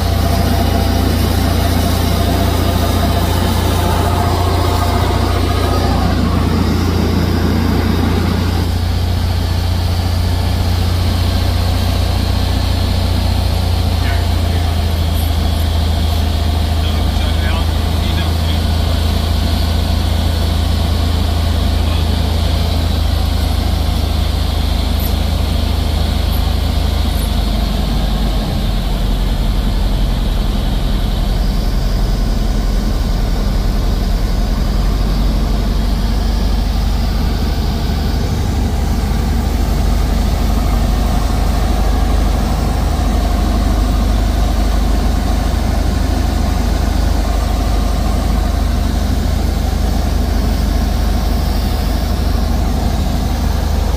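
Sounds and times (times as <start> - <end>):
aircraft engine drone in cockpit: 0.0 - 53.9.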